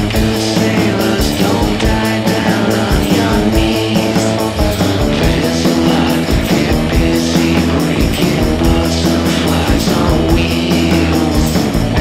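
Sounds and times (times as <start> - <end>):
bass guitar: 0.0 - 12.0
drums keeping a steady beat: 0.0 - 12.0
electric guitar: 0.0 - 12.0.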